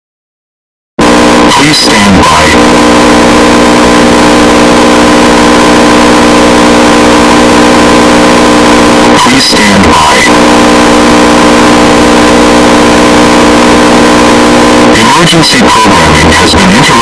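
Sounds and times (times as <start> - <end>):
harsh electronic alert tone: 1.0 - 17.0.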